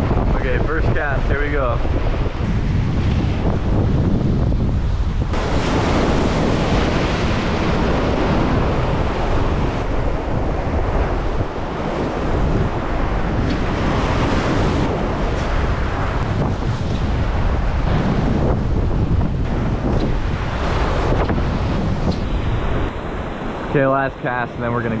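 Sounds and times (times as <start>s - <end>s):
ocean surf on shore: 0.0s - 25.0s
wind buffeting microphone: 0.0s - 25.0s.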